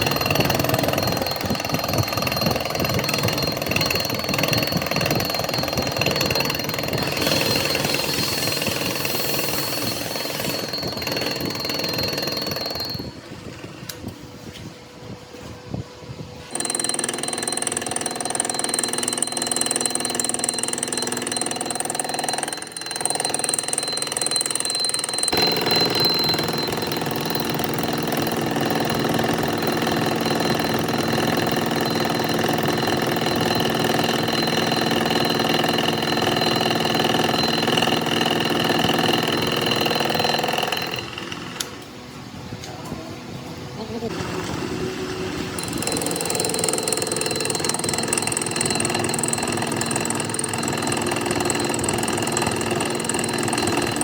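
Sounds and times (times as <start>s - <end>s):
workshop machinery whining: 0.0s - 54.0s.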